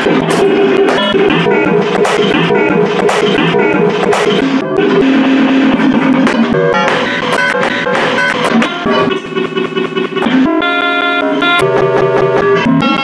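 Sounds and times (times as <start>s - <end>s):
buzzing electronic tones: 0.0s - 13.0s.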